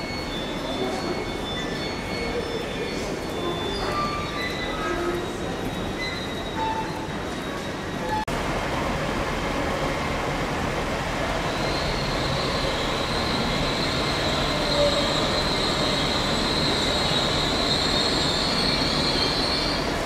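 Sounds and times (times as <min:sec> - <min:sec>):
high-pitched metallic squeal: 0:00.0 - 0:08.3, 0:11.6 - 0:19.8
train rumbling through station: 0:00.0 - 0:20.0.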